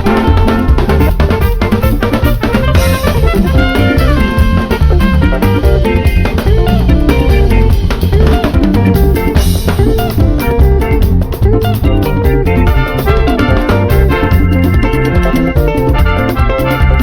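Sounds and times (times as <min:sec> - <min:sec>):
band music with guitar: 0:00.0 - 0:17.0
drum kit busy groove: 0:00.0 - 0:17.0.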